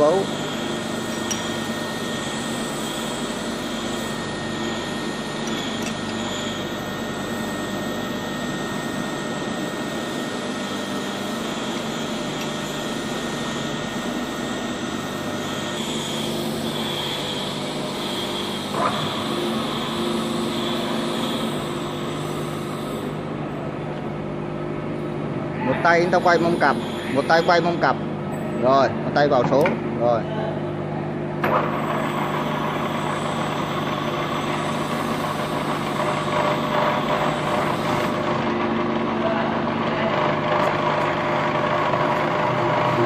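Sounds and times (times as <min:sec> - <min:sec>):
machinery and fans droning: 0:00.0 - 0:43.0.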